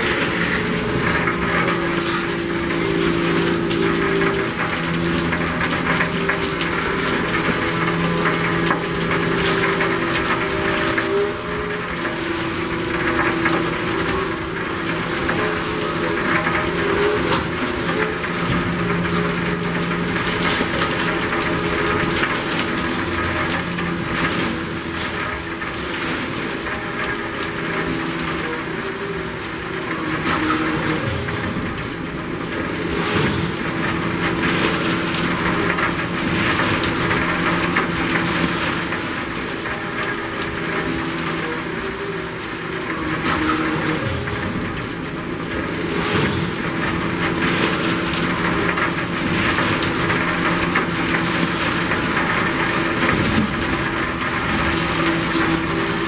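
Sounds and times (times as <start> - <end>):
coal pouring into hopper car: 0.0 - 56.0
thin high squeal: 0.0 - 56.0.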